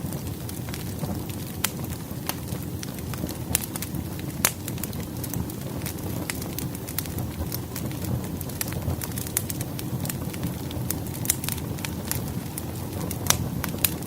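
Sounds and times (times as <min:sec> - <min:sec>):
firewood crackling and popping: 0:00.0 - 0:14.0
flames rushing: 0:00.0 - 0:14.0.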